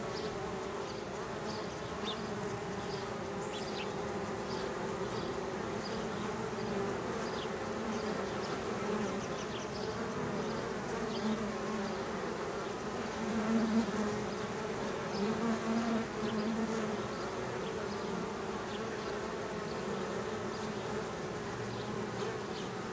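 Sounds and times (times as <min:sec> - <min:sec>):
honeybees buzzing: 0:00.0 - 0:22.9.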